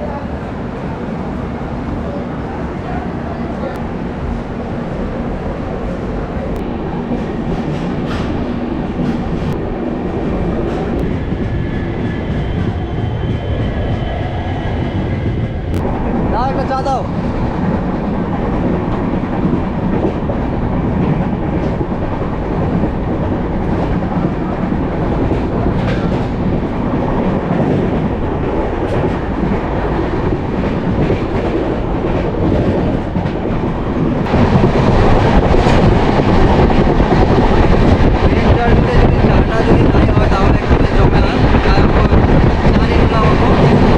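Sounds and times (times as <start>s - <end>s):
train coach rumble: 0.0s - 43.9s.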